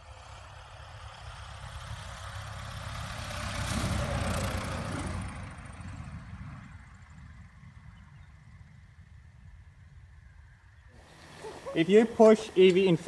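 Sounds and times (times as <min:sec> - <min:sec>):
plane engine and propeller: 0:00.0 - 0:13.0.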